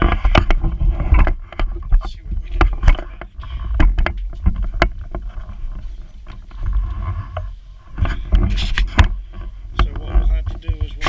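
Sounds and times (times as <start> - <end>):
low handling rumble: 0.0 - 11.0.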